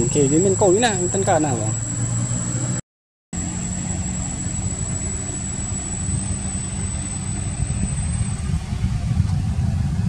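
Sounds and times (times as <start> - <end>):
high-pitched whine: 0.0 - 2.8, 3.4 - 10.0
low rumble with engine hum: 0.0 - 2.8, 3.4 - 10.0.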